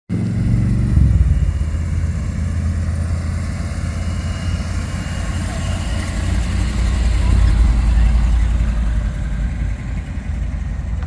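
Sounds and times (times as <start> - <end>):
car engine running: 0.1 - 11.0.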